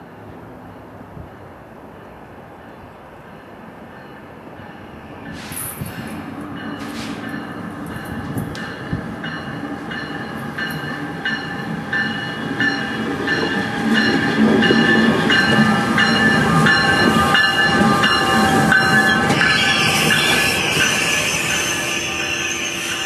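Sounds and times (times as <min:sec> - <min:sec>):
locomotive whine: 0:03.5 - 0:23.0
train brakes squealing: 0:03.9 - 0:23.0
train wheels clicking on rails: 0:04.2 - 0:23.0.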